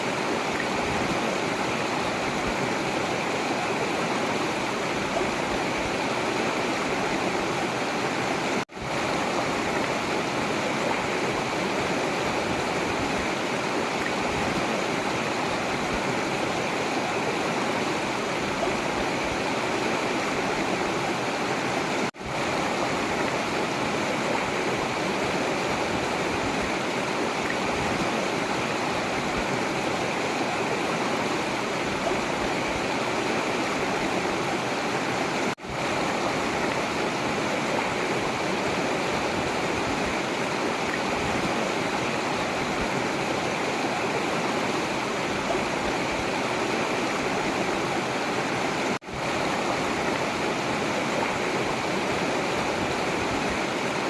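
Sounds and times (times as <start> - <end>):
river water rushing and splashing: 0.0 - 54.0.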